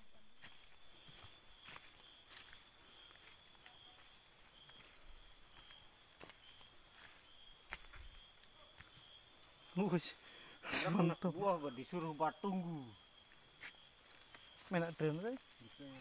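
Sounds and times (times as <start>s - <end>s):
night insects chorus: 0.0s - 16.0s.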